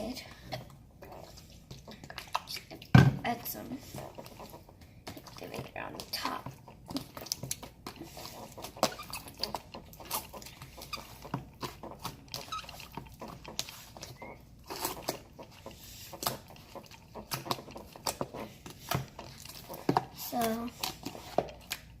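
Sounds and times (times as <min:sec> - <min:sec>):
slime kneaded by hand: 0:00.0 - 0:22.0.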